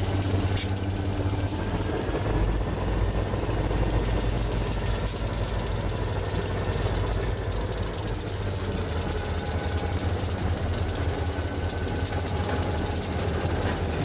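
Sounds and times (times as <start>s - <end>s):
freight train rumbling past: 0.0s - 14.0s
wheels rattling and clicking: 0.0s - 14.0s.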